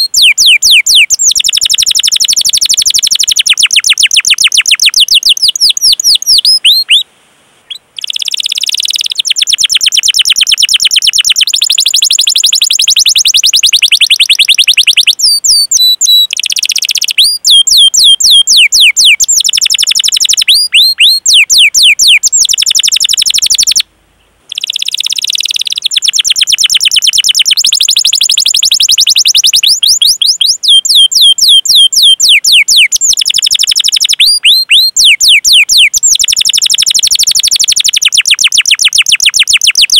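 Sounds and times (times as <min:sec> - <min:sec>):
canary singing trills: 0:00.0 - 0:23.9, 0:24.5 - 0:39.9.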